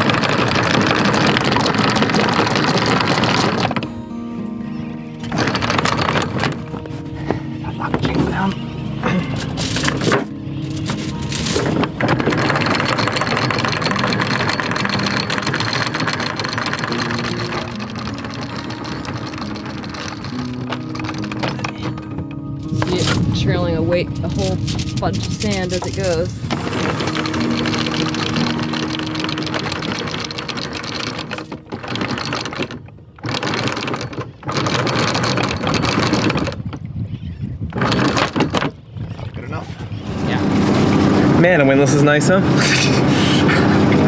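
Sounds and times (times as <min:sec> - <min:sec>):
anchor chain rattling: 0:00.0 - 0:04.2, 0:05.2 - 0:07.2, 0:07.8 - 0:40.0
windlass motor running: 0:00.0 - 0:44.0.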